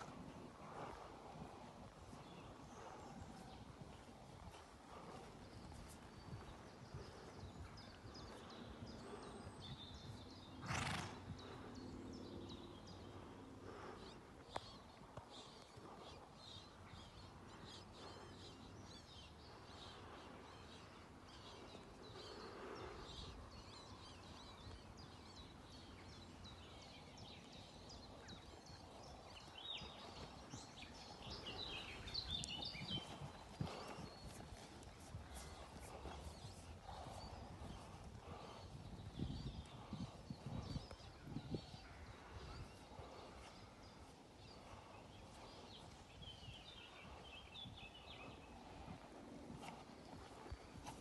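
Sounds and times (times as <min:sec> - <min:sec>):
hoofbeats on sand: 0:00.0 - 0:12.9, 0:13.7 - 0:51.0
small birds chirping: 0:00.0 - 0:51.0.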